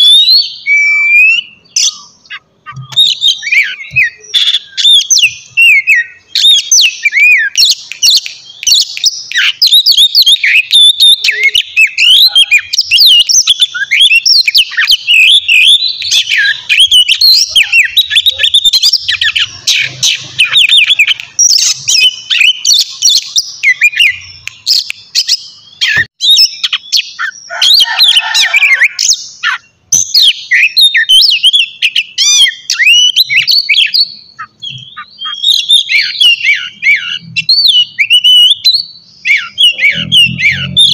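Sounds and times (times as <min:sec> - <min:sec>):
bird singing whistled phrases: 0:00.0 - 0:40.9.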